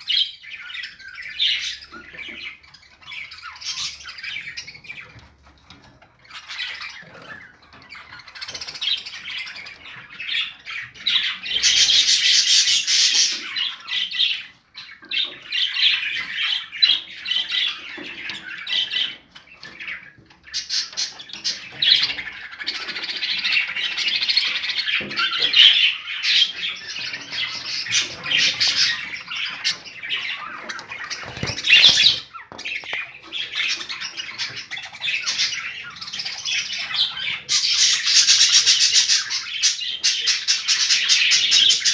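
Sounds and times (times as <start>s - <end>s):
birds chirping and squawking: 0.0s - 41.9s.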